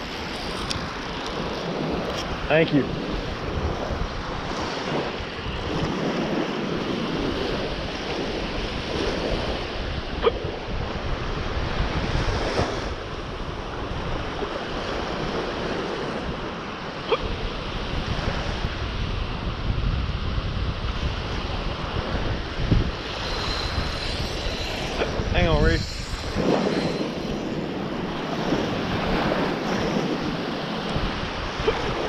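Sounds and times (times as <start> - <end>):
waves washing: 0.0 - 32.0
wind buffeting microphone: 0.0 - 32.0.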